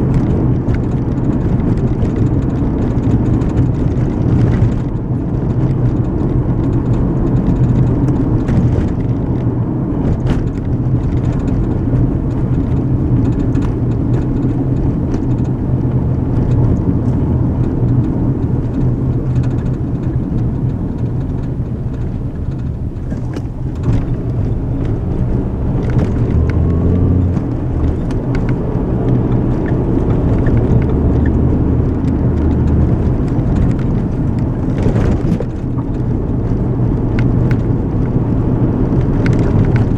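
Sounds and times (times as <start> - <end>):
car cabin tyre and engine rumble: 0.0 - 39.9.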